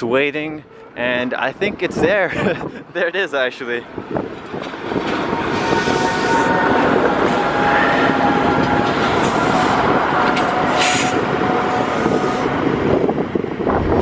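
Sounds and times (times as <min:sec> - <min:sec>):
streetcar rolling on rails: 0:00.0 - 0:14.0.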